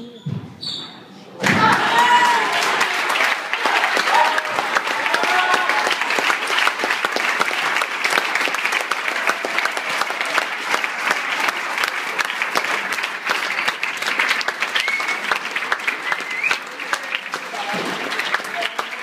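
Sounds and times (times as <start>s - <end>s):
crowd applauding: 1.4s - 19.0s.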